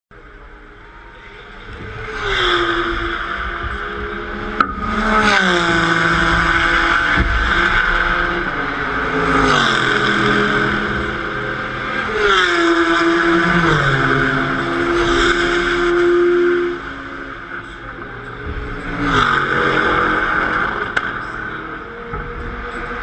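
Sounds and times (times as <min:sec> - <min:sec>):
race cars passing at speed: 0:00.2 - 0:23.0.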